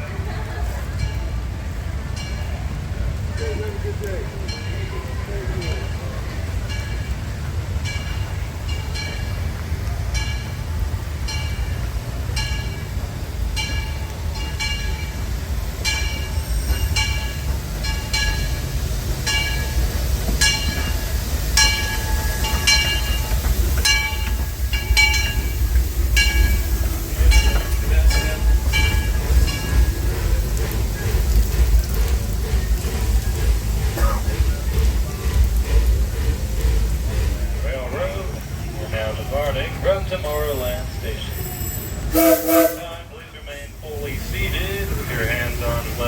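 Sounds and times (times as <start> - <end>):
low train rumble: 0.0 - 46.0
train wheels clicking over rail joints: 0.2 - 46.0.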